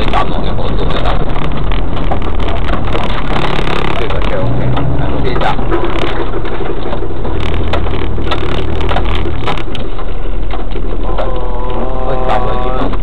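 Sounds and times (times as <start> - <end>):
engine rumble: 0.0 - 13.0
knocks and rattles: 0.0 - 13.0.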